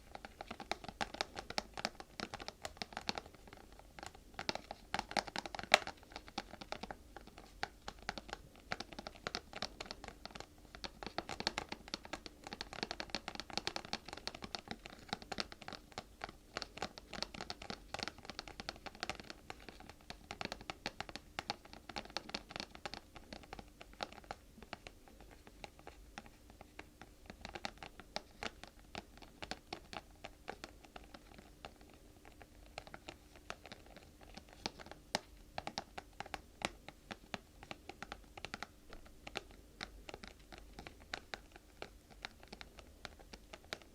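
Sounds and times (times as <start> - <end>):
scratching and tapping on object: 0.0 - 43.9.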